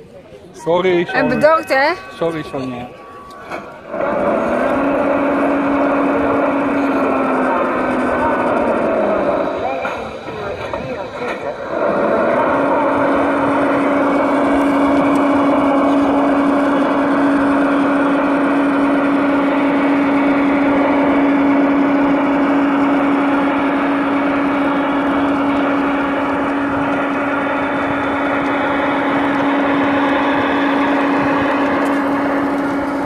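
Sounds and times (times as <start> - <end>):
model locomotive motor humming: 0.0 - 33.0.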